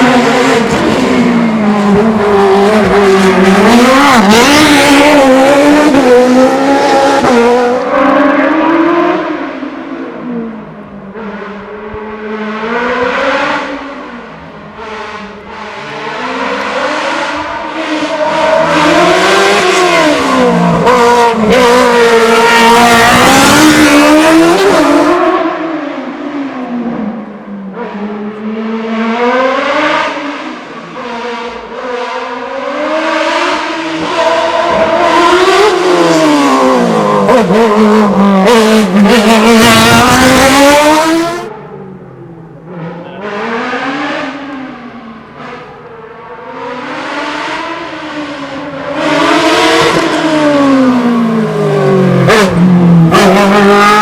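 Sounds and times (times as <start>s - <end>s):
racing car engine revving: 0.0s - 41.7s, 42.6s - 54.0s.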